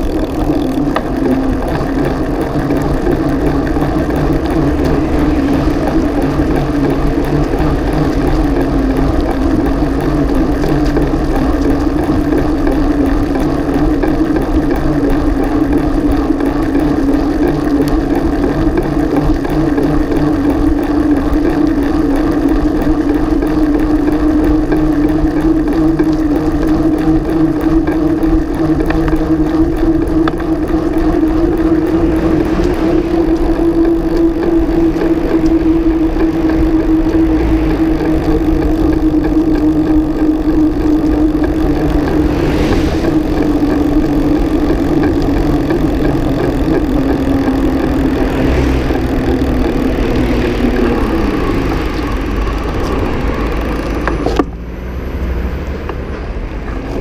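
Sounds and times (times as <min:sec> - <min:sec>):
bicycle rolling hum: 0:00.0 - 0:57.0.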